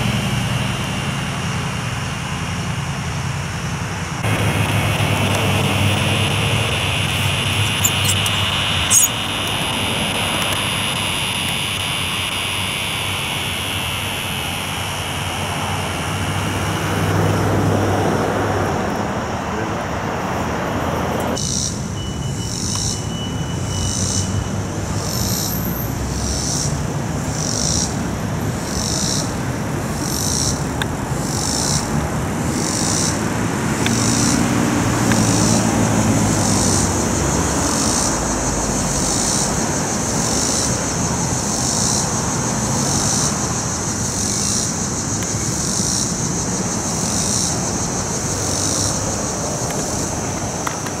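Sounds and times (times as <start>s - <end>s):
cicada buzzing: 0.0s - 51.0s.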